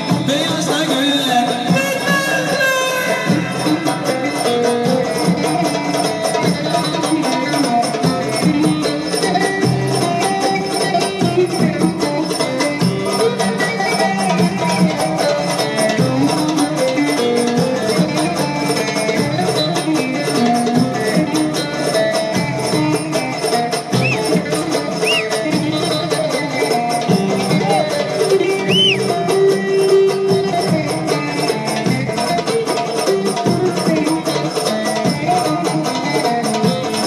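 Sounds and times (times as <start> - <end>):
plucked lute folk tune: 0.0 - 37.0.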